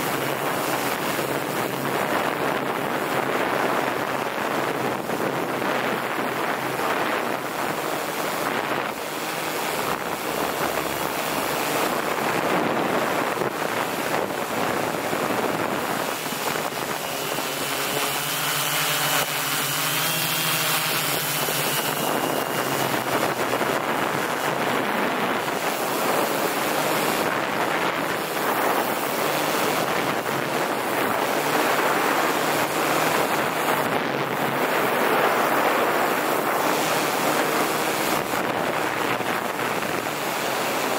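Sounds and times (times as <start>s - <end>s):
drone propeller noise: 0.0s - 40.9s
thin whine: 0.0s - 40.9s.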